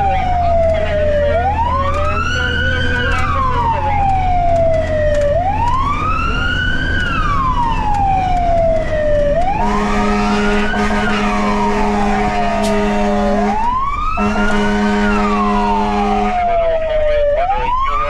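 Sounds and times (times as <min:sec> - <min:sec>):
fire engine wail siren: 0:00.0 - 0:18.0.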